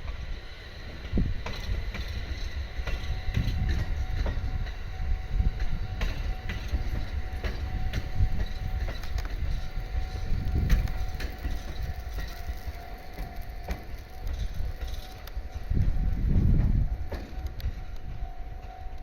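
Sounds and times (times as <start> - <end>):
train rumble: 0.0 - 19.0
wheels clicking over rail joints: 0.0 - 19.0.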